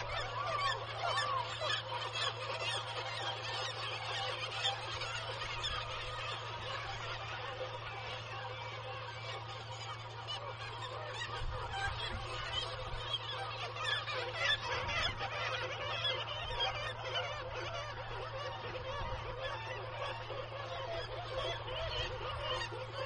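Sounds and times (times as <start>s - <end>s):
seabird colony calling: 0.0s - 23.0s
steady low hum: 0.0s - 23.0s.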